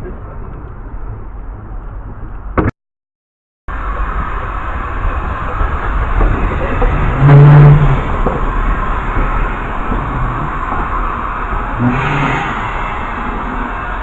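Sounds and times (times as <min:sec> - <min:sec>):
train rumbling: 0:00.0 - 0:02.6, 0:03.7 - 0:14.0.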